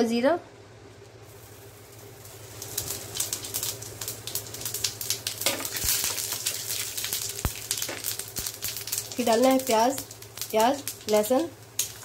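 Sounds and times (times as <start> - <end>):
seeds crackling in hot oil: 1.0 - 12.0.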